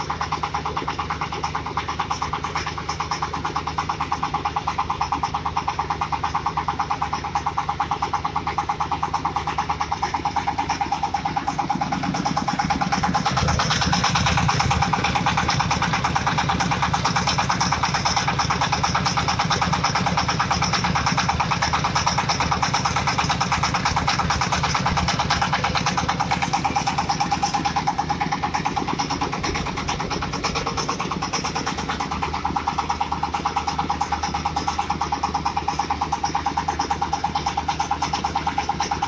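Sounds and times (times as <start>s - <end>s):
diesel engine running: 0.0s - 39.0s
steady whine: 0.0s - 39.0s.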